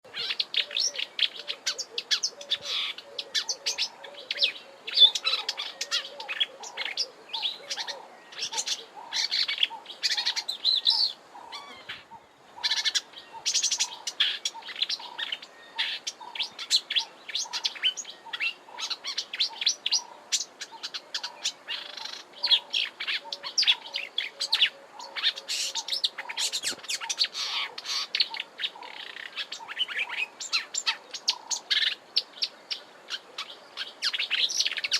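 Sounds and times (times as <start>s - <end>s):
warbler singing: 0.0s - 34.9s.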